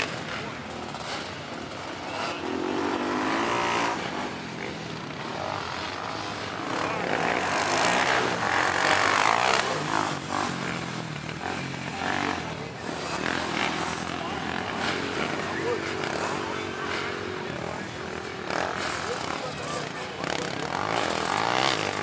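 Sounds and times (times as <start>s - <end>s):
quad engines revving: 0.0s - 22.0s.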